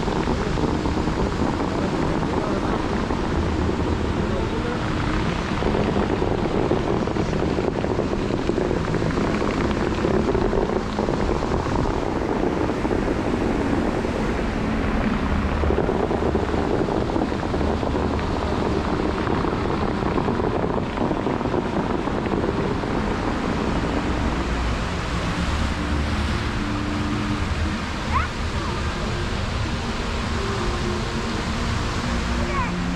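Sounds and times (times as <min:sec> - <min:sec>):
fountain water jets splashing: 0:00.0 - 0:32.9
wind buffeting microphone: 0:00.0 - 0:32.9.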